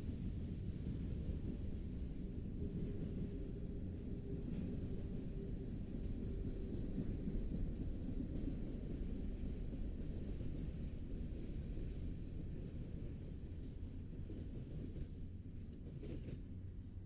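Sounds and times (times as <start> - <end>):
train rumbling: 0.2 - 17.0.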